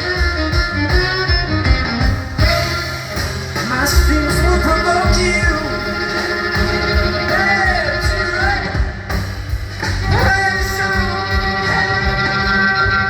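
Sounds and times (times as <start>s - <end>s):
jazz band playing ballad: 0.0s - 13.0s.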